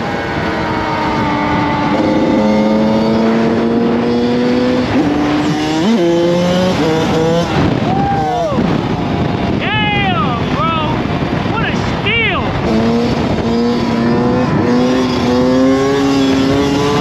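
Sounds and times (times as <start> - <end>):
dirt bike engine revving: 0.0 - 17.0
dirt bike engine running: 0.0 - 17.0.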